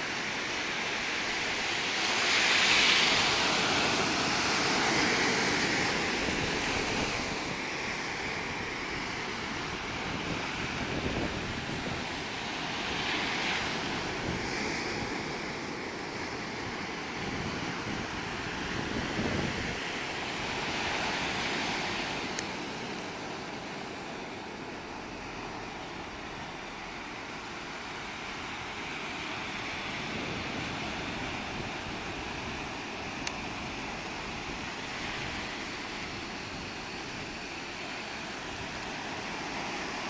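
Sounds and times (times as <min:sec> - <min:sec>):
sea waves washing onto shore: 0:00.0 - 0:40.0
wind buffeting microphone: 0:00.0 - 0:40.0.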